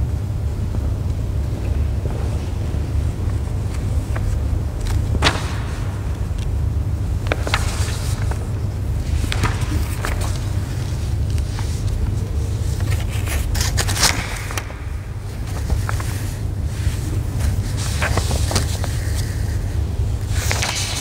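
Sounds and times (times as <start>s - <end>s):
low room rumble: 0.0s - 21.0s
paper rustling and clicks: 3.2s - 21.0s.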